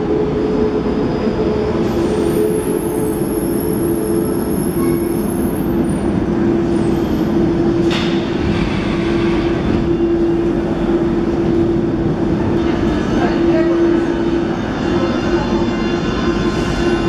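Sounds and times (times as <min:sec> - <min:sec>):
train steady hum: 0:00.0 - 0:17.0.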